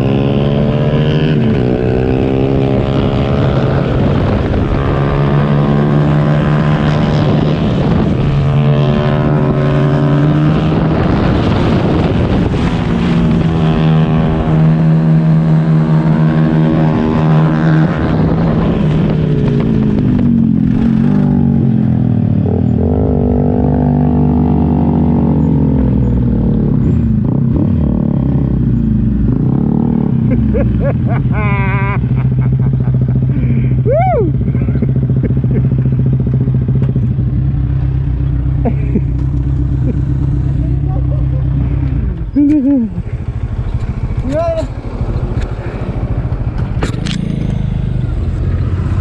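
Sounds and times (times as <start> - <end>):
motorcycle engine: 0.0 - 49.0.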